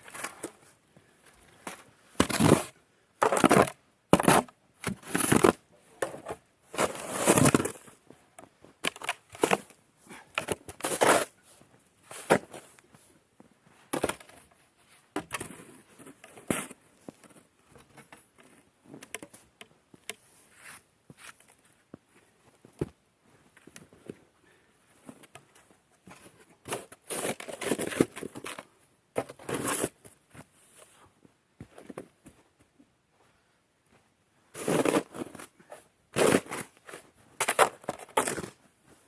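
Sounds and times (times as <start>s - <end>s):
crunching and scraping noises: 0.0s - 32.7s, 33.9s - 39.0s.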